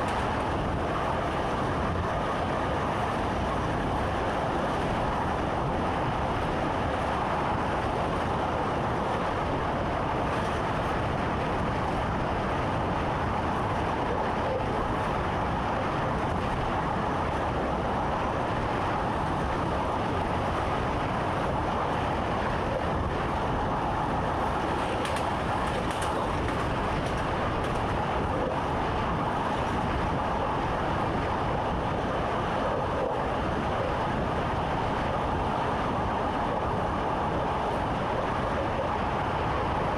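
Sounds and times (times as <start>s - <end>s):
rumble of train wheels on track: 0.0s - 39.9s
train cab hum: 0.0s - 39.9s.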